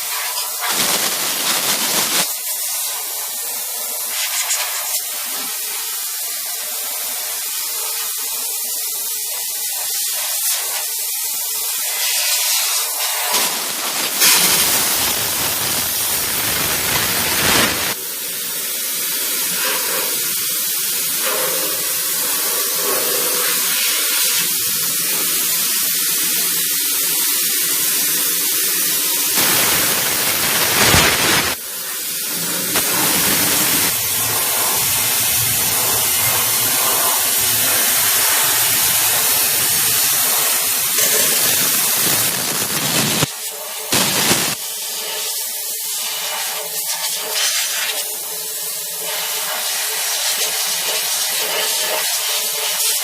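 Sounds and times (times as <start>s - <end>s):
steam cleaner hissing: 0.0s - 53.0s.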